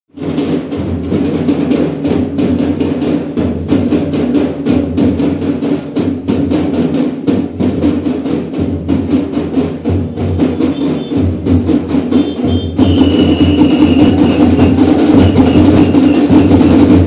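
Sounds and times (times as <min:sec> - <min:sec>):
drums and cymbals beat: 0:00.1 - 0:17.0.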